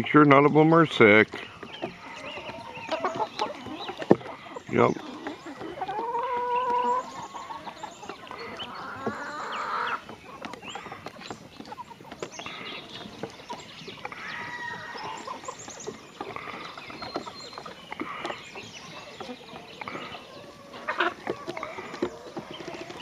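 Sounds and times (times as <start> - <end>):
beaks pecking on wooden boards: 0.0 - 23.0
hens clucking: 0.0 - 23.0.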